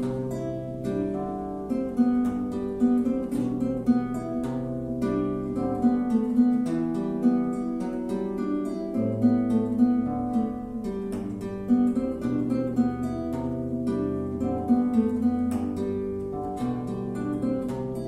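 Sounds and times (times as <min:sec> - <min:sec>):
plucked string instrument melody: 0:00.0 - 0:18.0.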